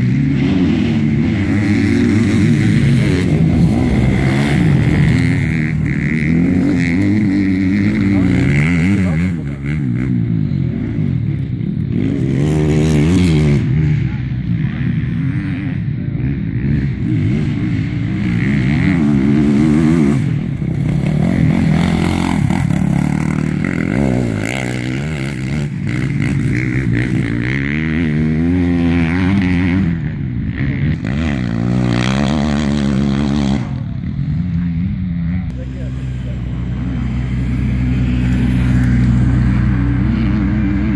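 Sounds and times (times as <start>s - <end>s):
motorcycles racing past: 0.0s - 40.9s.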